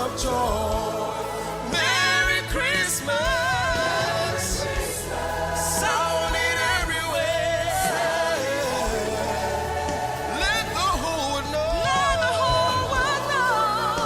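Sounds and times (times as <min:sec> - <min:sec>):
band accompaniment with bass beat: 0:00.0 - 0:14.0
gospel choir singing: 0:00.0 - 0:14.0.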